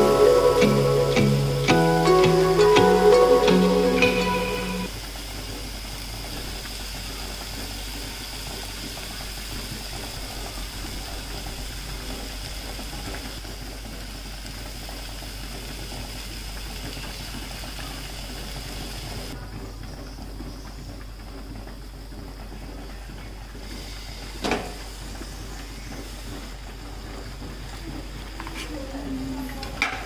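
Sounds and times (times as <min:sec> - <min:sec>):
vegetables sizzling in oil: 0:00.0 - 0:19.4, 0:23.6 - 0:29.0.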